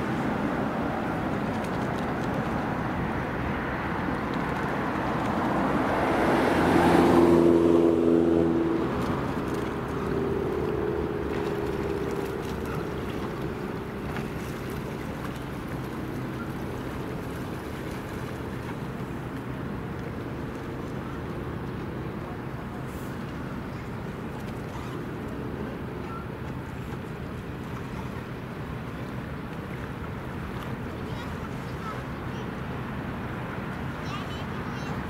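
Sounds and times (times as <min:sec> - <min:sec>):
motorboat engine passing: 0:00.0 - 0:35.0
water noise: 0:00.0 - 0:35.0
wind: 0:00.0 - 0:35.0.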